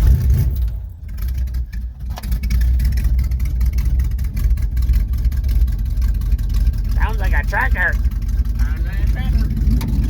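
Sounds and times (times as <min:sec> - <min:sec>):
pickup truck engine running: 0:00.0 - 0:10.0.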